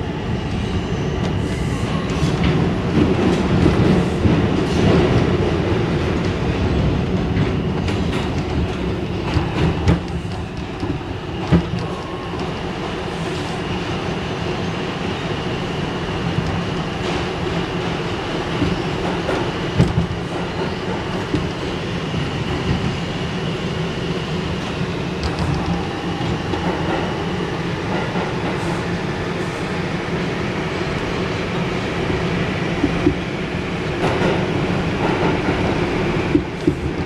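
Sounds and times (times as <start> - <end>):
subway train wheels rumbling on rails: 0.0 - 37.0.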